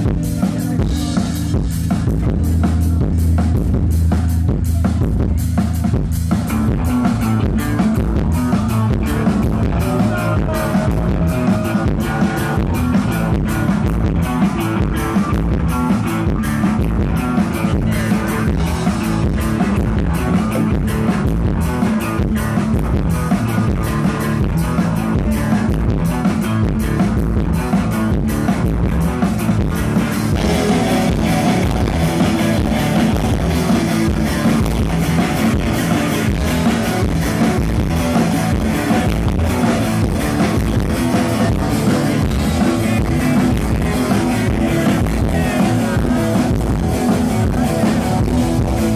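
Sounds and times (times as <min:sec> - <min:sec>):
bass guitar: 0:00.0 - 0:48.9
drum kit beat: 0:00.0 - 0:48.9
electric guitars: 0:00.0 - 0:48.9
live rock band playing: 0:00.0 - 0:48.9.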